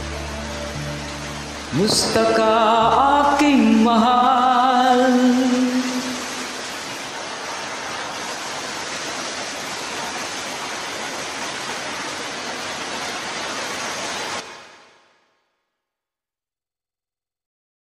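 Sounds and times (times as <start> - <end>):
rain-like hiss: 0.0 - 15.7.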